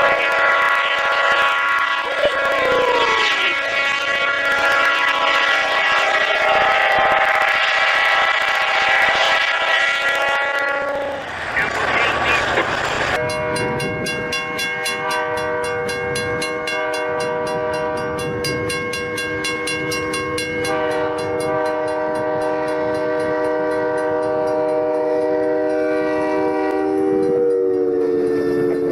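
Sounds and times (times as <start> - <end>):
multi-tone train horn: 0.0 - 12.5, 13.2 - 28.9.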